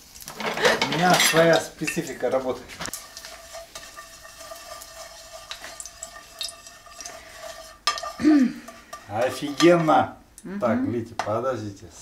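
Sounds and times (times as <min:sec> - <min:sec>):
oil sizzling in a frying pan: 0:00.0 - 0:10.3.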